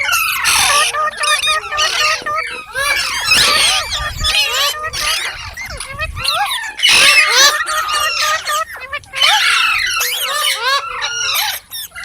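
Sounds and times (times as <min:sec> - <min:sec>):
parrots chattering and squawking: 0:00.0 - 0:12.0.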